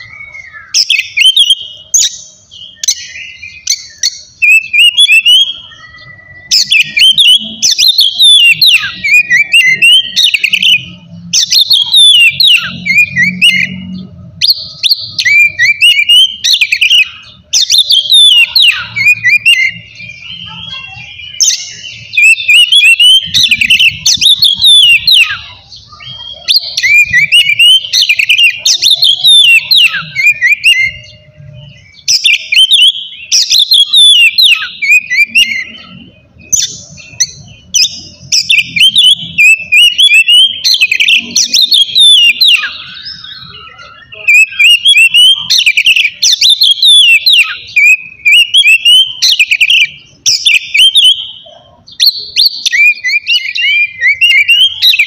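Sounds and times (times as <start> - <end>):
bird singing whistled phrases: 0.0 - 55.0.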